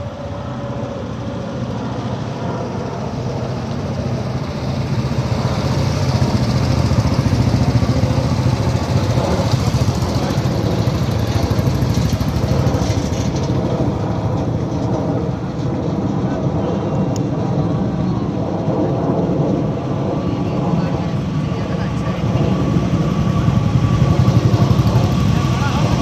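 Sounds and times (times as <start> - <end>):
motorcycle engines passing: 0.0 - 26.0.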